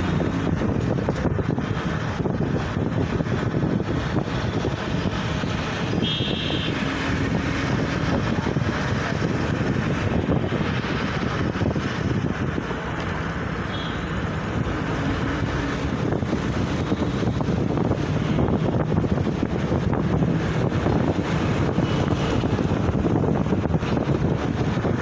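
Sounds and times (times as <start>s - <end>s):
wind buffeting microphone: 0.0s - 6.1s, 6.7s - 25.0s
road traffic rumble: 0.0s - 25.0s.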